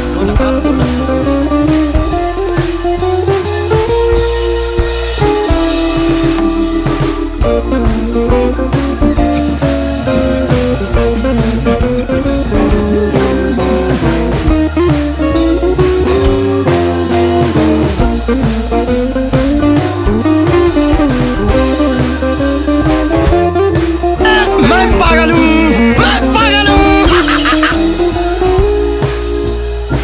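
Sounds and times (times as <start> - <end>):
blues-rock music: 0.0 - 30.0.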